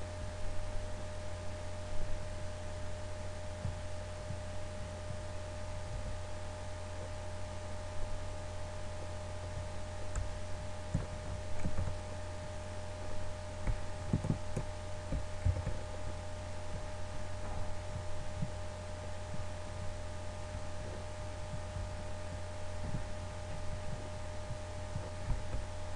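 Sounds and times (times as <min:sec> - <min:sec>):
low electrical hum: 0:00.0 - 0:25.9
soft low thumps: 0:00.0 - 0:25.9.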